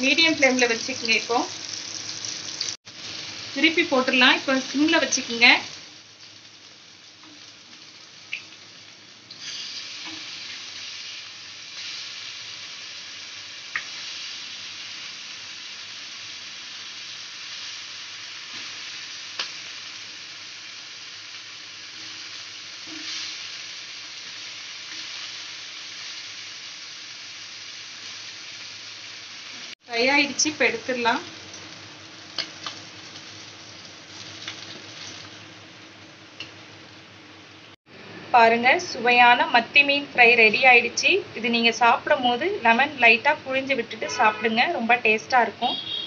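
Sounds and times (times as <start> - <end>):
fish sizzling in oil: 0.0 - 37.0.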